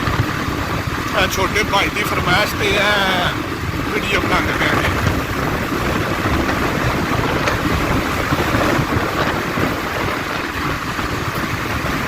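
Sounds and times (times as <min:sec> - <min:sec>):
road and traffic noise: 0:00.0 - 0:12.0
wind buffeting microphone: 0:00.0 - 0:12.0.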